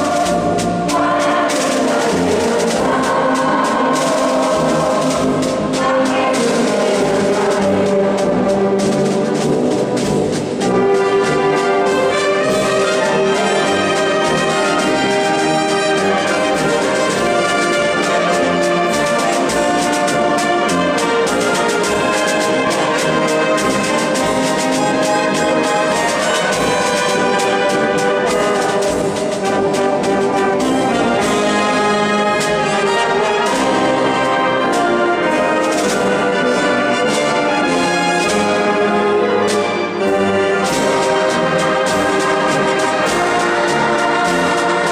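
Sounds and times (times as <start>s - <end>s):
trombones and trumpets: 0.0s - 44.9s
wind band playing in a church: 0.0s - 44.9s.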